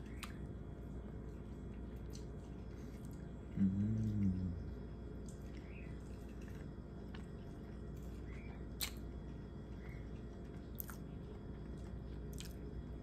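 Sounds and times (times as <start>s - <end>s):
wet chewing: 0.0s - 12.9s.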